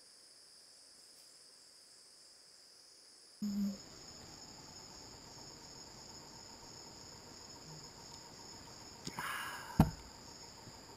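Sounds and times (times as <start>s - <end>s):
insects chirring: 0.0s - 10.9s.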